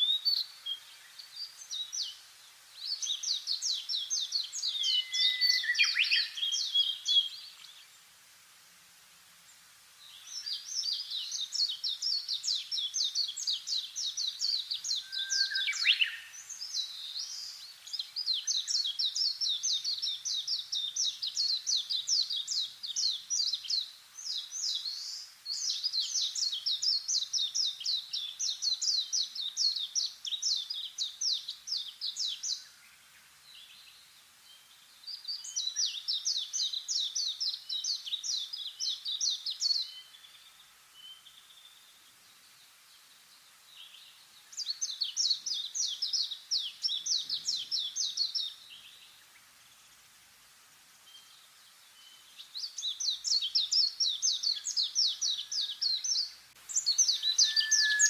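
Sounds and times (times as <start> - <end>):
songbird chirping rapidly: 0.0 - 8.0, 10.0 - 32.8, 33.4 - 49.8, 51.0 - 58.0.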